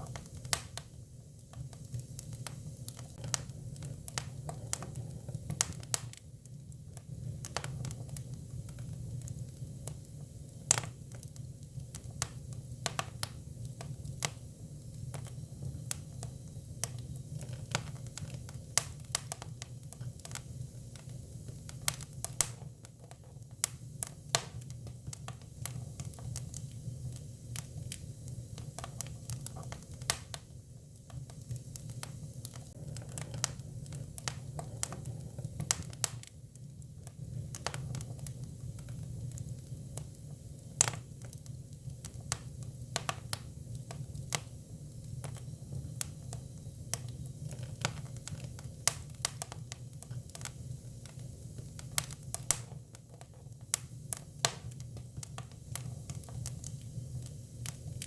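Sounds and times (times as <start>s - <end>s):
fire low rumble: 0.0s - 58.0s
firewood crackling and popping: 0.0s - 58.0s.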